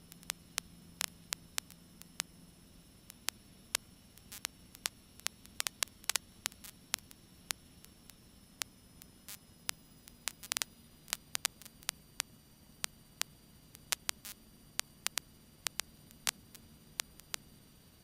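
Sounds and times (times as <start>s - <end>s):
crackling static clicks and pops: 0.0s - 18.0s
faint low hum: 0.0s - 18.0s.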